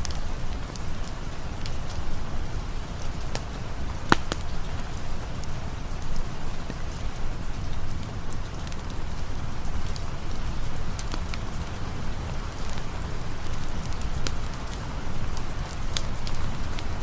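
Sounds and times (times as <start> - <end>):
campfire crackles: 0.0 - 17.0
rain rushing: 0.0 - 17.0.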